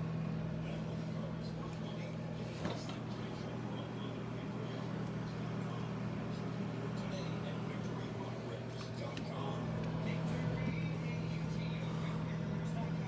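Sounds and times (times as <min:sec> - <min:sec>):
kitchen appliance humming: 0:00.0 - 0:13.0.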